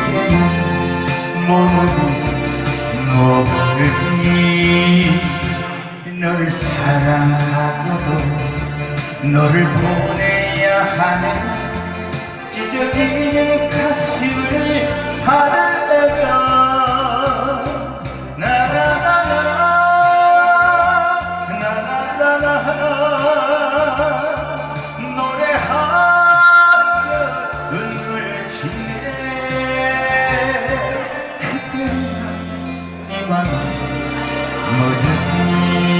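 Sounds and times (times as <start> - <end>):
backing track with bass line: 0.0 - 35.9
man singing with vibrato: 0.0 - 35.9.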